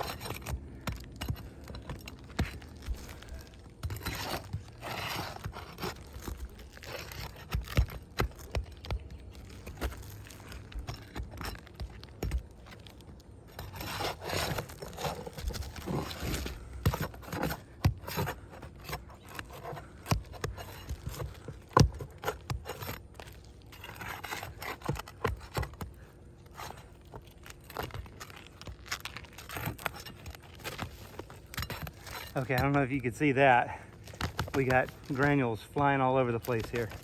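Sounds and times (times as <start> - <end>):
roof shingles scraping: 0.0 - 37.0.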